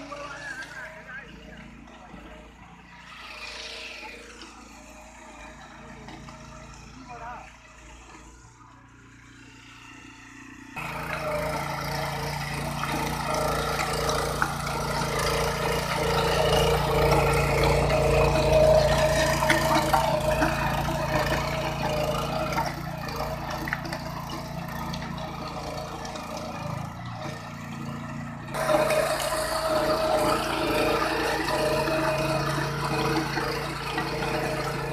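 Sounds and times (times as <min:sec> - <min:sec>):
power tiller engine clattering: 0:00.0 - 0:34.9.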